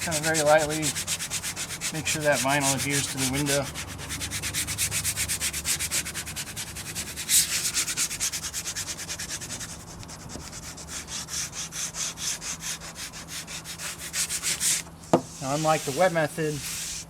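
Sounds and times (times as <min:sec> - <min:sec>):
squeegee rasping on vinyl: 0:00.0 - 0:17.0.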